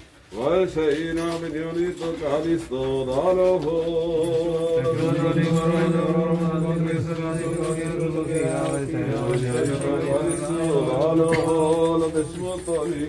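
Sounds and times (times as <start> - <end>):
men chanting a hymn: 0.4 - 13.0.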